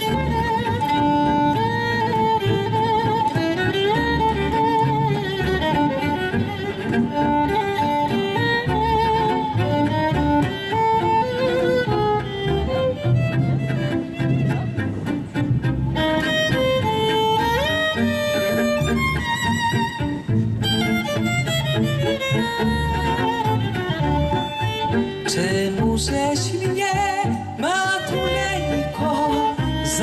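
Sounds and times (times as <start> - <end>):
fiddles playing lively melody: 0.0 - 30.0
plucked double bass: 0.0 - 30.0.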